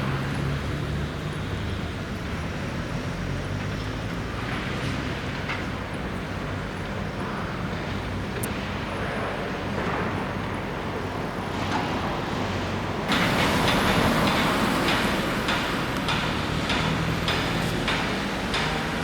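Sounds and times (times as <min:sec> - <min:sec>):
heavy construction machinery rumbling: 0:00.0 - 0:19.0.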